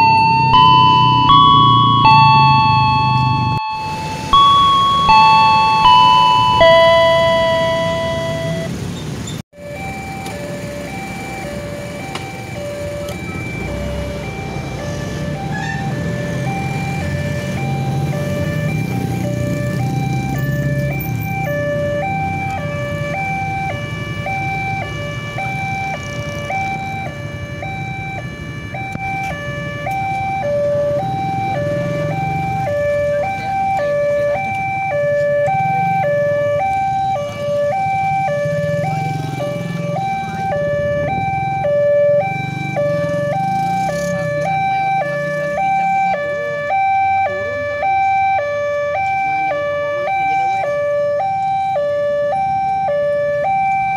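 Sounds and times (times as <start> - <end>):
level crossing two-tone alarm: 0.0 - 8.8, 9.6 - 53.9
road traffic engines rumbling: 0.0 - 53.9.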